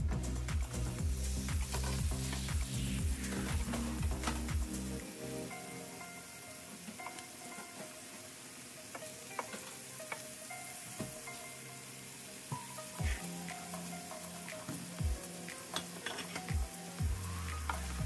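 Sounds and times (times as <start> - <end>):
vegetables sizzling in skillet: 0.1 - 18.0.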